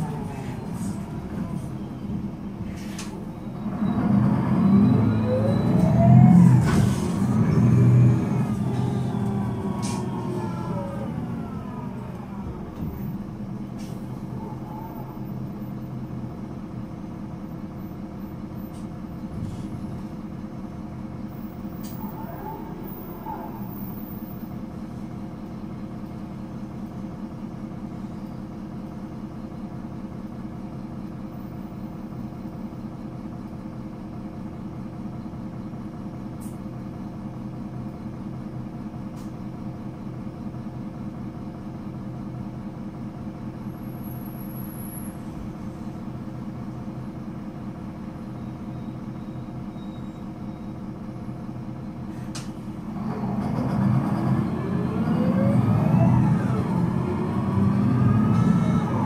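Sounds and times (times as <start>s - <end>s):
bus engine pulling hard: 0.0s - 59.0s.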